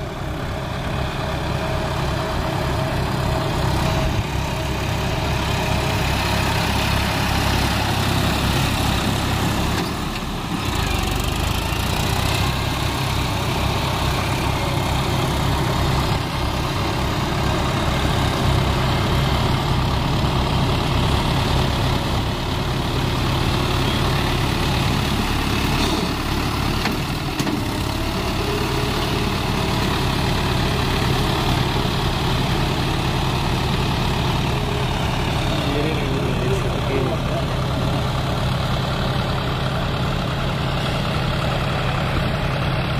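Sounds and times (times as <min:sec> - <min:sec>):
tractor diesel engines chugging: 0:00.0 - 0:42.9.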